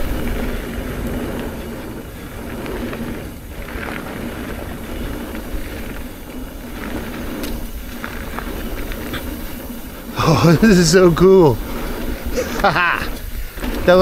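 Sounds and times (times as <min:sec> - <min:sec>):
bike clicks and rattles: 0:00.0 - 0:14.0
tyres rumbling on dirt: 0:00.0 - 0:14.0
wind buffeting microphone: 0:00.0 - 0:14.0.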